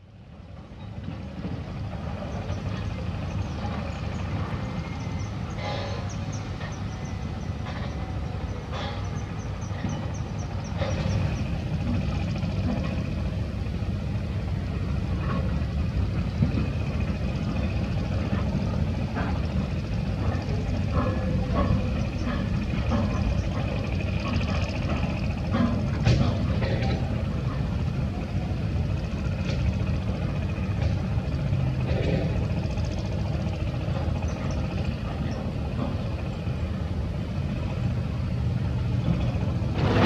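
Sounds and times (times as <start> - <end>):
heavy machinery diesel engines running: 0.0 - 40.0.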